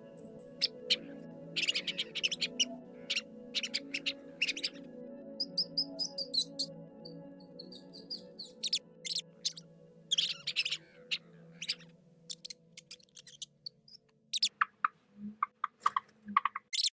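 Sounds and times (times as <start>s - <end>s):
rats squeaking: 0.2s - 4.8s, 5.4s - 6.7s, 7.5s - 17.0s.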